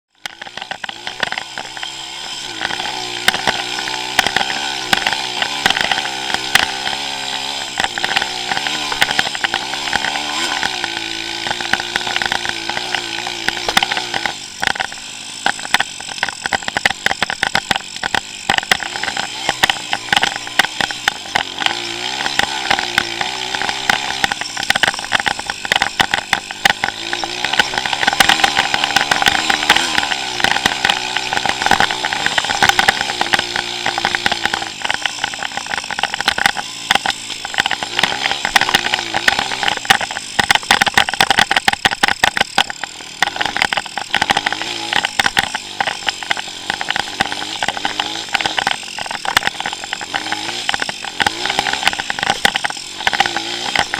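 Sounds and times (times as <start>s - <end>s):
engine crackles and knocks: 0.1s - 53.9s
motorbike engine revving: 0.1s - 53.9s.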